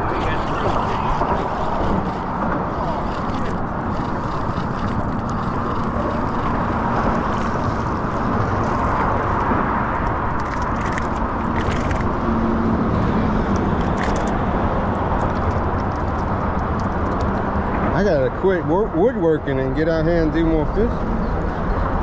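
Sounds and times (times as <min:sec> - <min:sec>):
road traffic rushing: 0:00.0 - 0:22.0.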